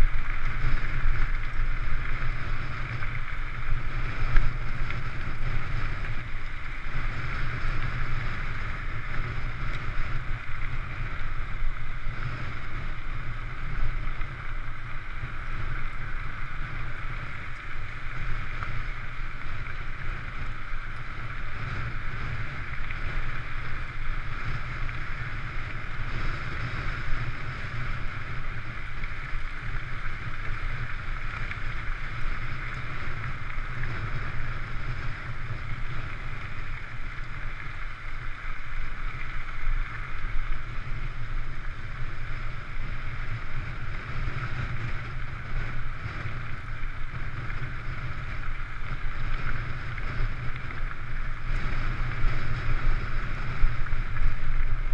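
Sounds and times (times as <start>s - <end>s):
bike tyres rolling over gravel: 0.0s - 54.9s
wind on microphone: 0.0s - 54.9s.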